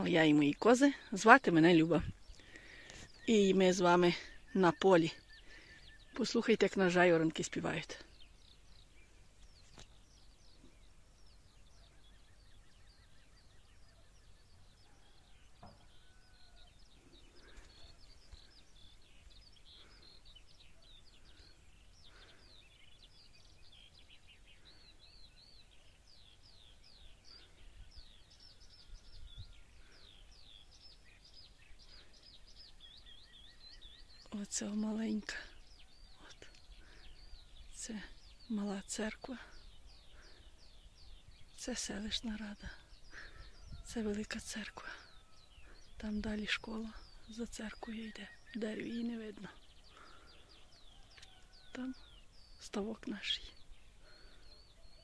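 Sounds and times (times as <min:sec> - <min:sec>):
skylarks singing: 0:00.0 - 0:55.0.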